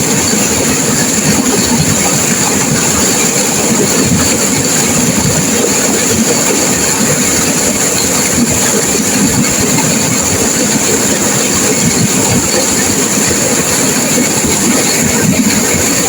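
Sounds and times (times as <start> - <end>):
river water rushing over rocks: 0.0 - 16.0.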